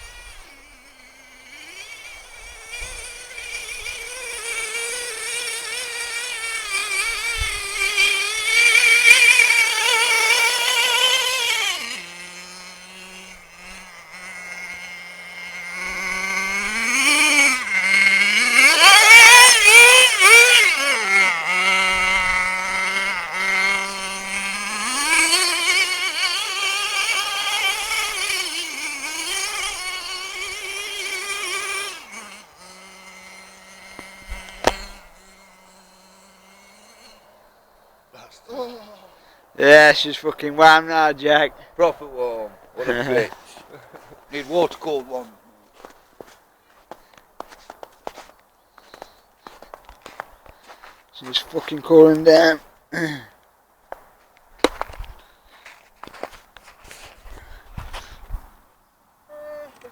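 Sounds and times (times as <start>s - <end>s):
small two-stroke engine revving: 0.0s - 53.3s.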